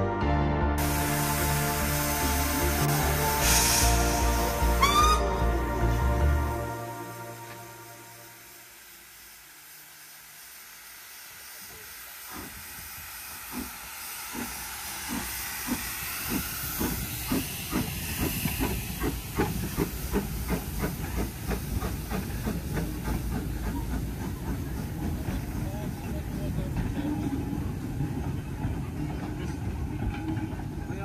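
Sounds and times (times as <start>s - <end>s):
steam hissing: 0.8s - 30.0s
steam locomotive exhaust chuffs: 0.8s - 31.0s.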